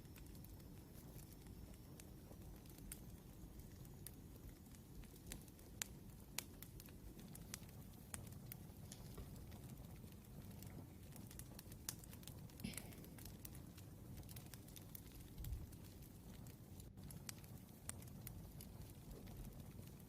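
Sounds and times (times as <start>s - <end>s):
fire popping and snapping: 0.0s - 20.0s
wood fire crackling: 0.0s - 20.0s.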